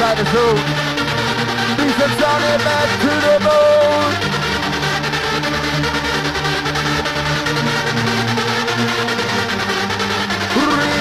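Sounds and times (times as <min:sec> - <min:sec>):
hard house dance music: 0:00.0 - 0:11.0.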